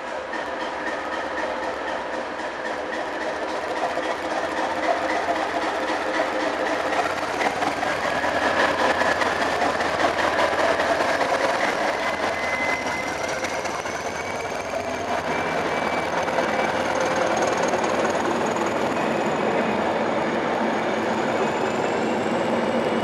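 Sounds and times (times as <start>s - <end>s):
diesel train engine drumming: 0.0s - 23.0s
rail and wheel noise: 0.0s - 23.0s.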